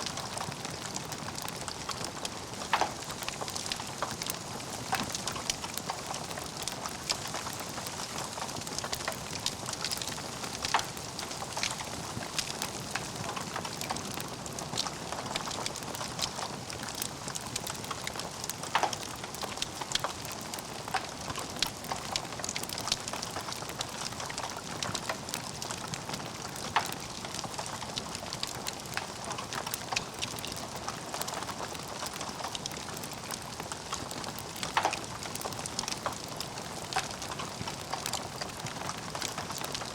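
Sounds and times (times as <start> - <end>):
logs crackling in fireplace: 0.0 - 39.9.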